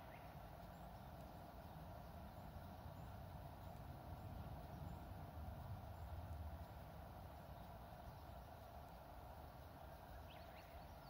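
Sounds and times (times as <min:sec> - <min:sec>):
bird chirp: 0:00.0 - 0:05.3, 0:07.3 - 0:11.0.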